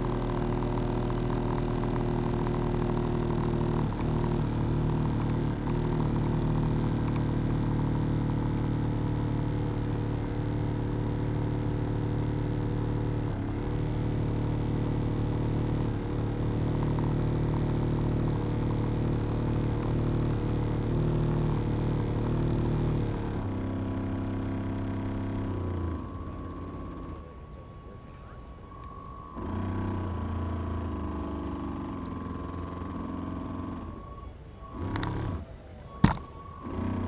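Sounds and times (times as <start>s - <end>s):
boat engine running: 0.0s - 37.0s.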